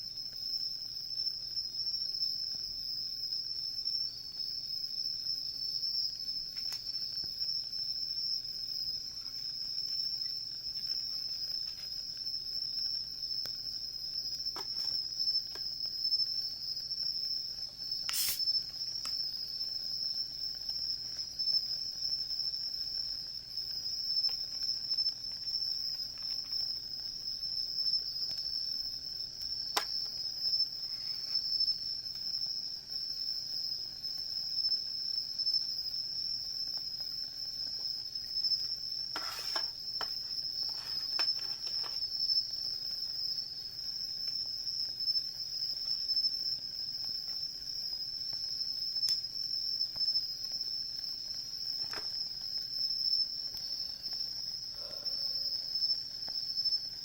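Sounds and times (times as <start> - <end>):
insects chirring: 0.0 - 57.0
campfire crackles and pops: 0.2 - 54.7.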